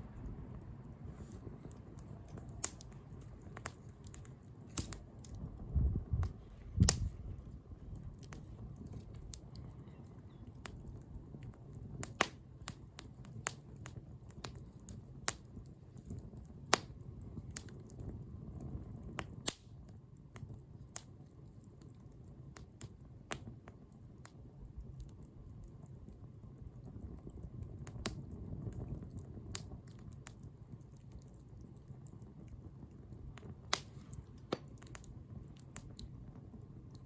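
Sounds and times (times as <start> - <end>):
bonfire popping: 0.0 - 37.0
low rumble of flames: 0.0 - 37.0.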